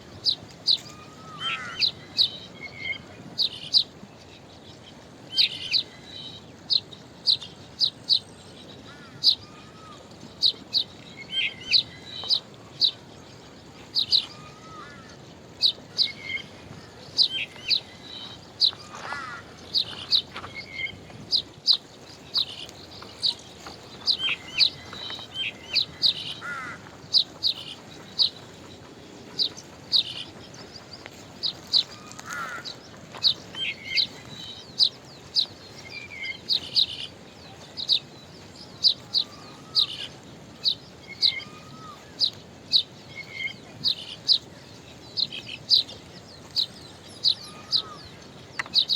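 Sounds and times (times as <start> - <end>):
faint steady background hiss: 0.0 - 48.9
small birds chirping: 0.0 - 48.9.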